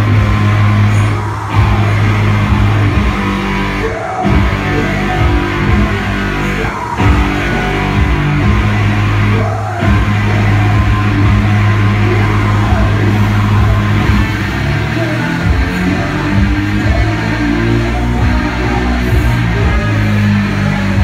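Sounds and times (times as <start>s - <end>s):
heavy distorted metal music: 0.0s - 21.0s.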